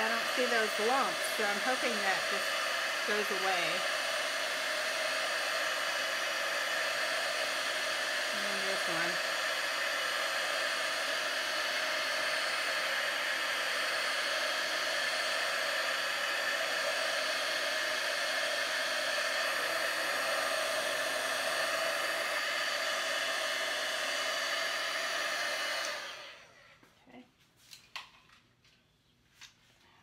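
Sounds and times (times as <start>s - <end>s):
heat gun blowing: 0.0s - 26.6s.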